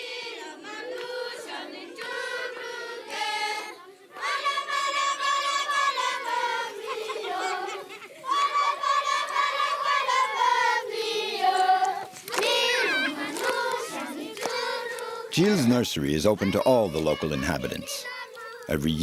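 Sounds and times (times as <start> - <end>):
children singing in chorus: 0.0 - 19.0.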